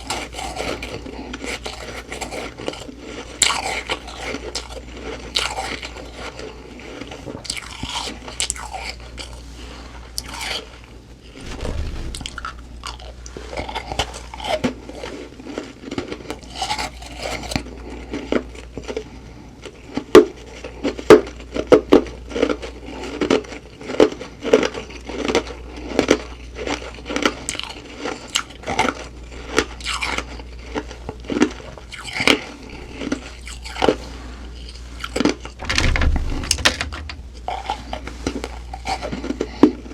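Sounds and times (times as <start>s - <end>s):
person chewing crunchy ice: 0.0s - 9.5s, 12.8s - 35.6s, 37.4s - 39.9s.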